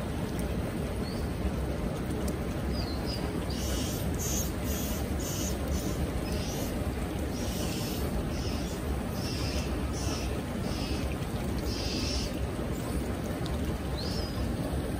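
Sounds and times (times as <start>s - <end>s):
rushing mountain stream: 0.0s - 14.9s
water splashing: 0.0s - 14.9s.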